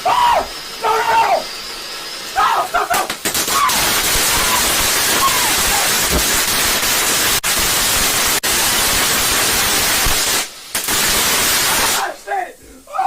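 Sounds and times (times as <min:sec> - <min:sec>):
firework hissing: 0:00.0 - 0:13.0.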